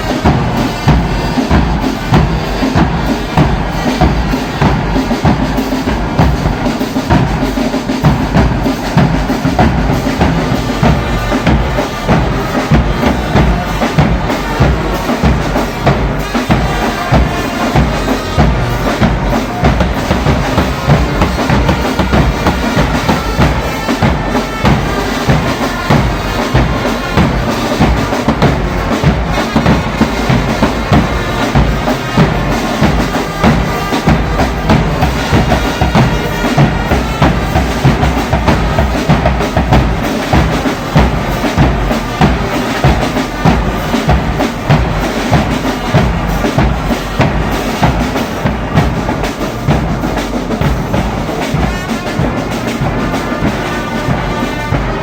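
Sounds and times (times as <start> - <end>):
bass drum and snare drum: 0.0 - 55.0
brass band playing: 0.0 - 55.0.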